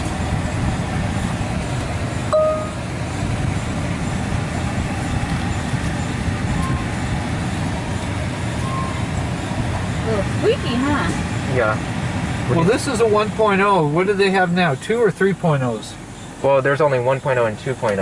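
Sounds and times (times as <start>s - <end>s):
car wash machinery rumbling: 0.0s - 18.0s.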